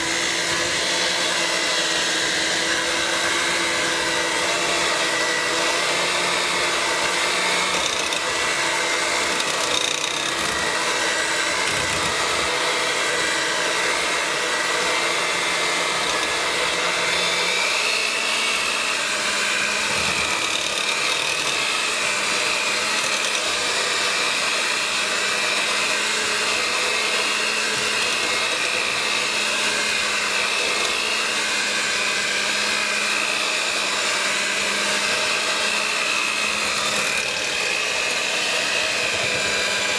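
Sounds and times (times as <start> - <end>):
electric hand mixer whipping: 0.0 - 39.9.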